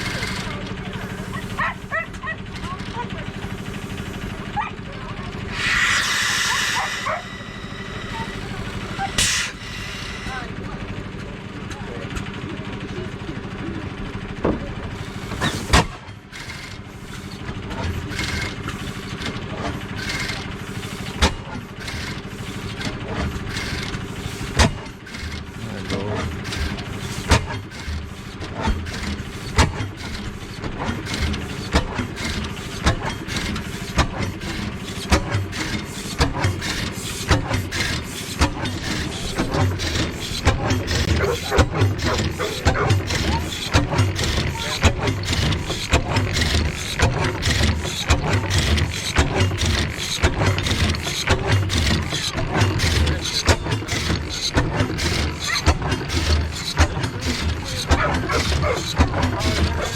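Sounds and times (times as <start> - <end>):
engine popping: 0.0 - 59.9
old engine running: 0.0 - 59.9.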